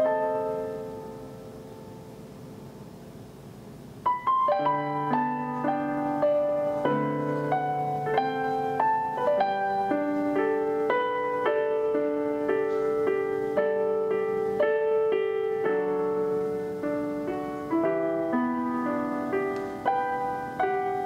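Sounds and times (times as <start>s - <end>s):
gentle keyboard music: 0.0s - 21.0s.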